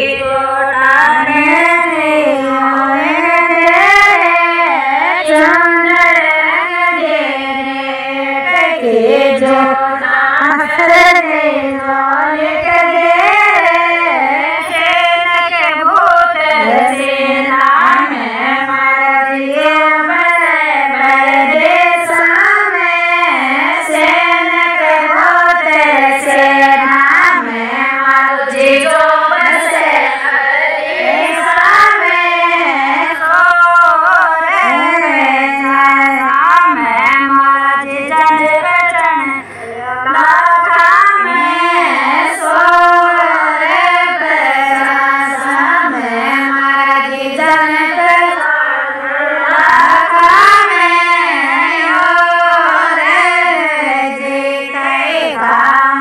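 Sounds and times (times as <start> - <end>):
women singing folk song: 0.0 - 56.0.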